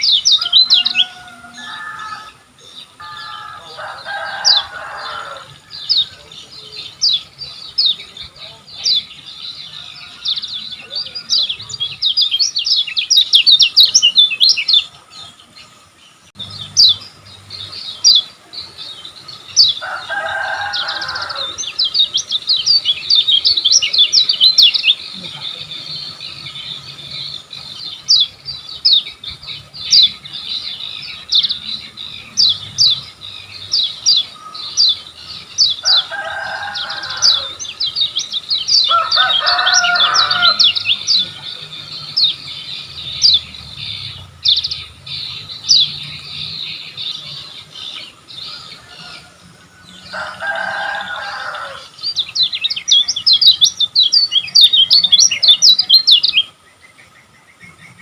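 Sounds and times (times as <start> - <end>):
bird chirping rapidly: 0.0 - 58.0.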